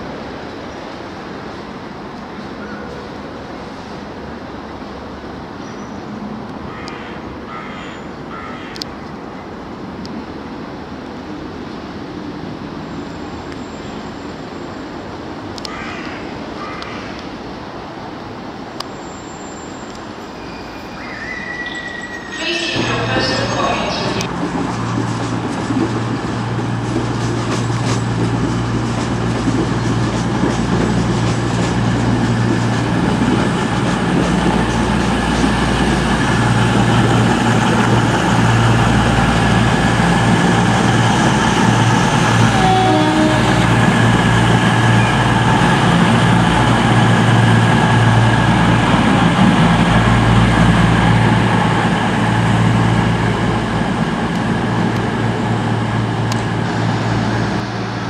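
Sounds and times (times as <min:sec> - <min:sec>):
rail noise: 0:00.0 - 0:58.0
diesel train engine drone: 0:08.2 - 0:58.0.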